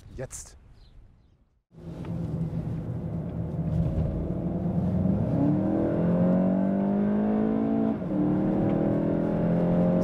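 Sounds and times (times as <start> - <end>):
road noise: 1.7 - 10.0
car engine accelerating: 1.8 - 10.0.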